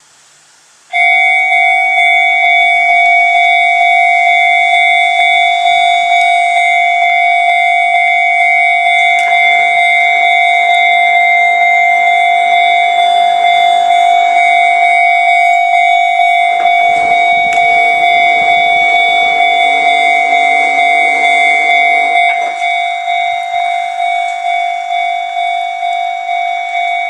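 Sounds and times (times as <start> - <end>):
level crossing warning bell: 0.9 - 27.0.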